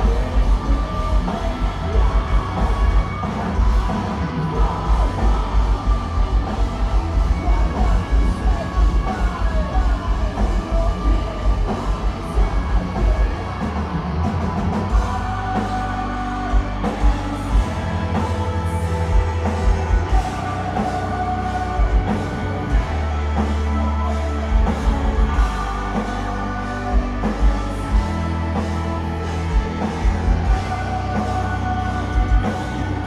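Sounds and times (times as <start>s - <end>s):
metalcore band playing live: 0.0s - 33.0s.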